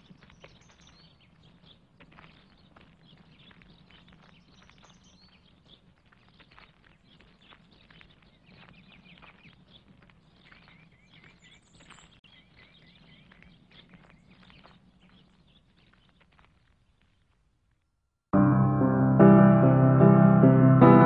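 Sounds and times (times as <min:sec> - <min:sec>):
small birds chirping: 0:00.0 - 0:17.4
faint footsteps on a lane: 0:00.0 - 0:17.8.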